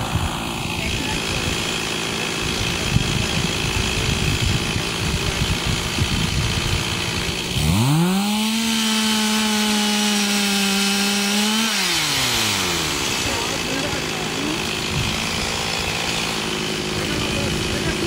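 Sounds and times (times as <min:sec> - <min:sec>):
two-stroke chainsaw revving: 0:00.0 - 0:18.0.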